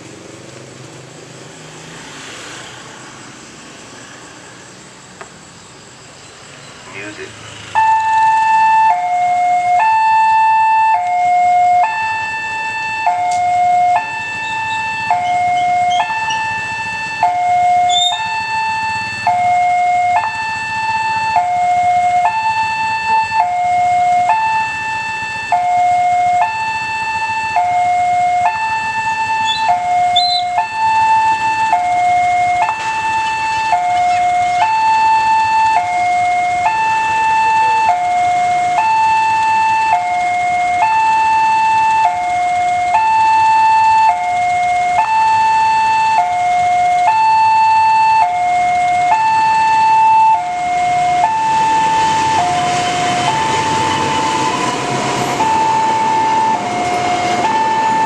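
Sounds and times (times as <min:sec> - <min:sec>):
two-tone crossing alarm: 0:06.6 - 0:58.0.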